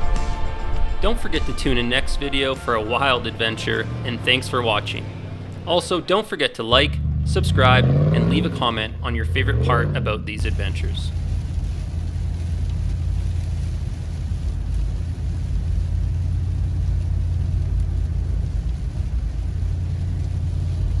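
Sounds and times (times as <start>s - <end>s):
road and engine rumble in car: 0.0s - 21.0s.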